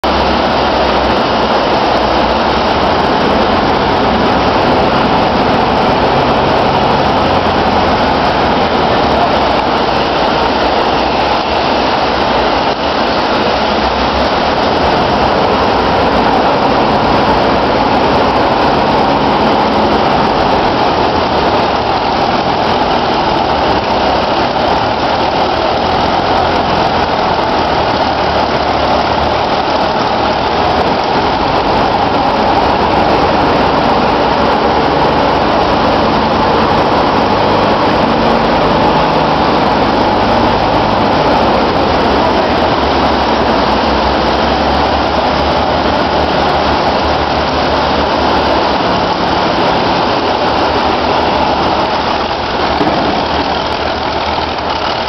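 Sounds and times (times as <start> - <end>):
tracked vehicle engine running: 0.0 - 55.0
tracks clanking: 0.0 - 55.0.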